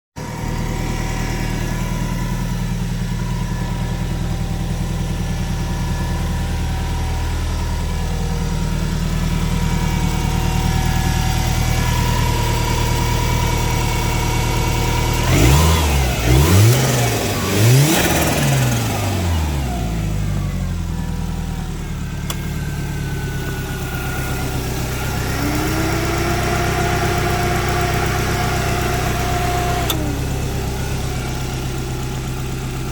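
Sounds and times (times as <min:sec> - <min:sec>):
car engine idling: 0:00.2 - 0:32.9
engine revving: 0:00.2 - 0:32.9.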